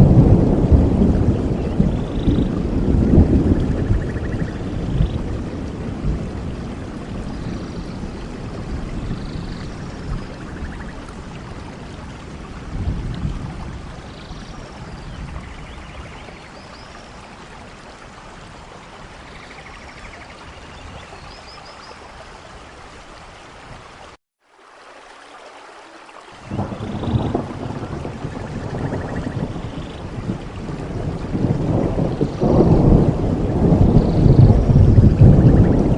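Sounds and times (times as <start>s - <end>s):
thunder rumbling: 0.0s - 21.2s, 26.4s - 35.9s
steady rain: 0.0s - 35.9s.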